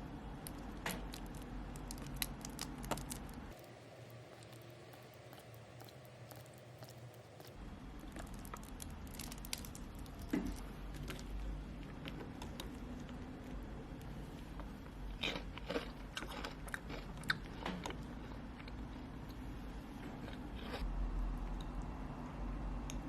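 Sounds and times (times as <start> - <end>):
low steady hum: 0.0 - 23.0
chewing crunchy food: 0.4 - 20.9.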